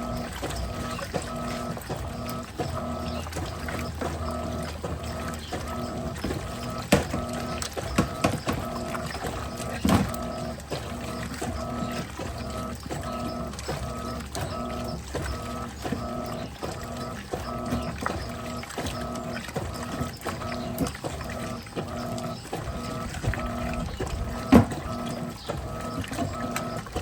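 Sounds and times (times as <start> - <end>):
agitator clicking: 0.0 - 27.0
washing machine motor humming: 0.0 - 27.0.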